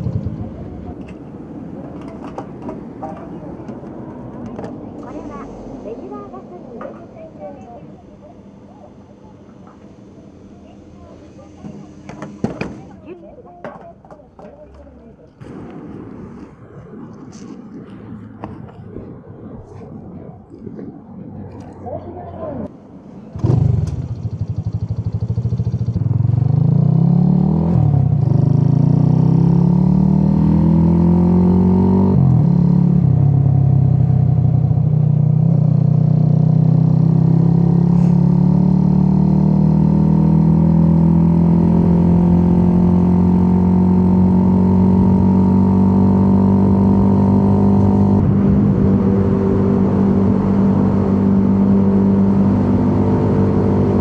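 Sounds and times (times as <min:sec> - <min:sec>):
motorcycle engine accelerating: 0:00.0 - 0:13.0, 0:23.3 - 0:54.0.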